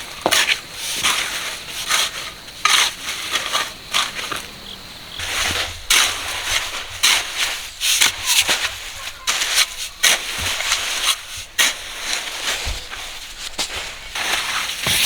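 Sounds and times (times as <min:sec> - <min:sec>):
shovel scraping through gravel: 0:00.0 - 0:04.5, 0:05.1 - 0:15.0.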